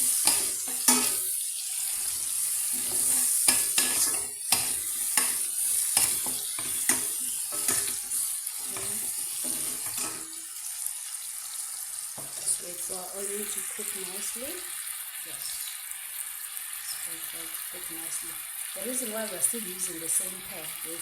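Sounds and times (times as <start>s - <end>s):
onion sizzling in a pan: 0.0s - 21.0s.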